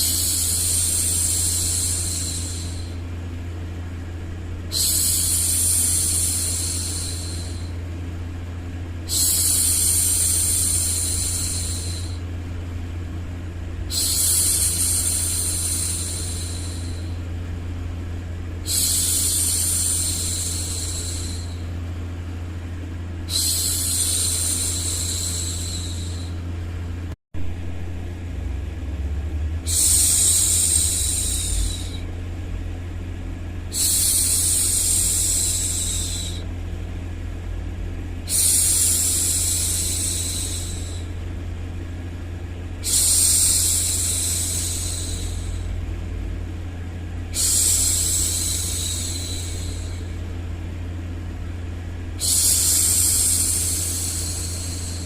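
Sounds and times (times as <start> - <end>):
low white noise: 0.0 - 55.0.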